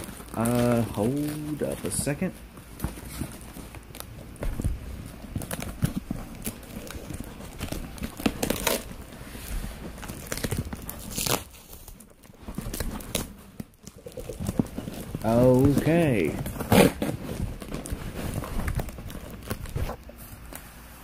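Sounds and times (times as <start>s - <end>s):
packaging rustling and crinkling: 0.0s - 21.0s.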